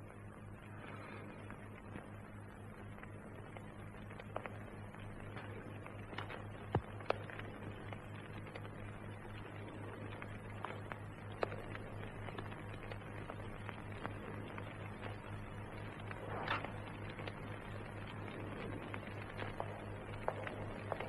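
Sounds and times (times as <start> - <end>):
low hum: 0.0 - 21.0
film soundtrack clicks and crackle: 0.7 - 21.0.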